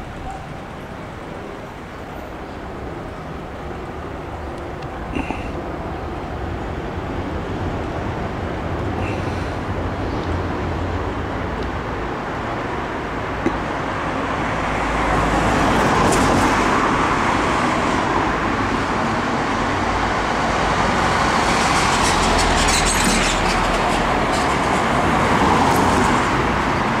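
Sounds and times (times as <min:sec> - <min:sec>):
passing vehicles: 0:00.0 - 0:27.0.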